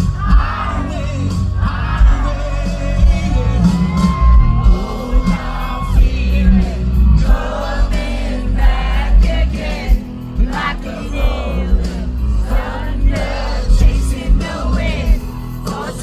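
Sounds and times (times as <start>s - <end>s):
person singing: 0.0s - 16.0s
rock band playing live: 0.0s - 16.0s.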